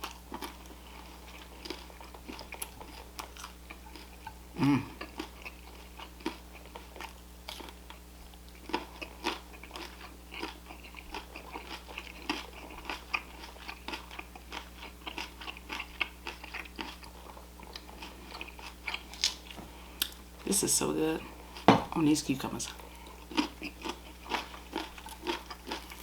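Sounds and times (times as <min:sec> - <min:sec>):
chewing and crunching food: 0:00.0 - 0:26.0.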